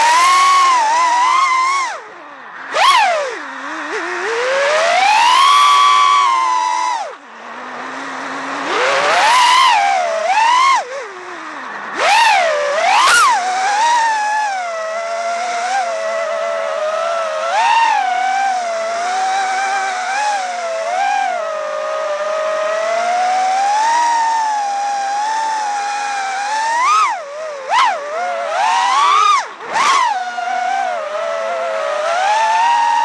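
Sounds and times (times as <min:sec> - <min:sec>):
drone motors whining: 0:00.0 - 0:33.0.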